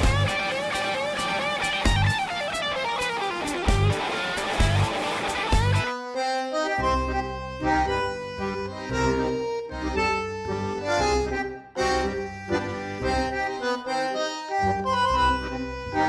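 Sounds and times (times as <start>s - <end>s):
instrumental music with pulsing bass: 0.0s - 16.0s.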